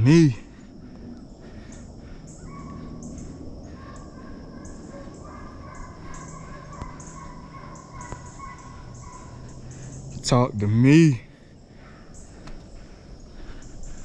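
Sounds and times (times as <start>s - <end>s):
distant hounds baying: 0.0s - 14.0s.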